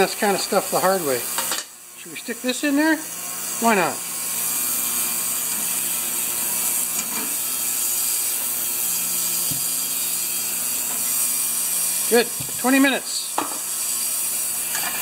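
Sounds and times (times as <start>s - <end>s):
ultrasonic cleaner buzzing hiss: 0.0s - 15.0s.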